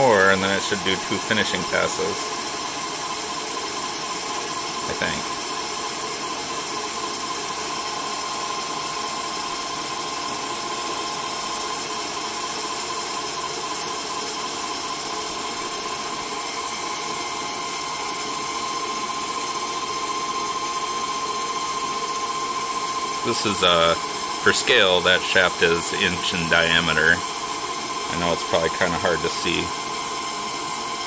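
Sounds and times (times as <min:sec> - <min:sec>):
lathe humming and whining: 0:00.0 - 0:31.0.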